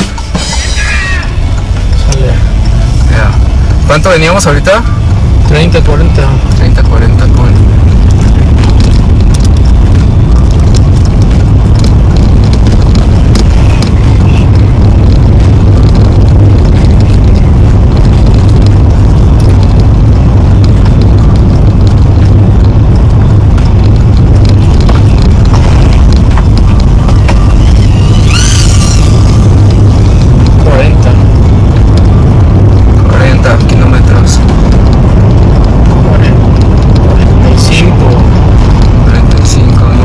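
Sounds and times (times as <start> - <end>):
road and wind noise in car: 0.0 - 40.0.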